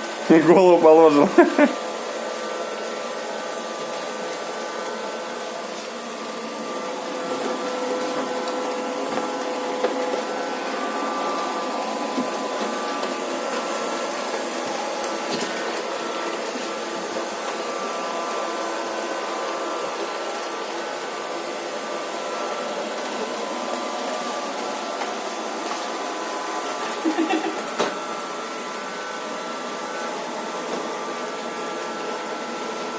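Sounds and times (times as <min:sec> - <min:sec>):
robot vacuum cleaner whirring: 0:00.0 - 0:32.9.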